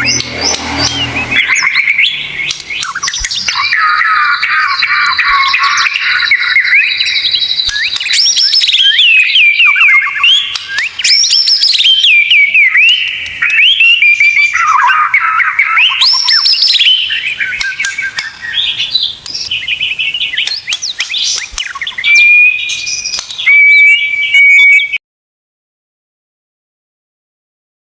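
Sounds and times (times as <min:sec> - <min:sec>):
bird long steady whistles: 0:00.0 - 0:25.0
bird singing loud varied song: 0:00.0 - 0:25.0.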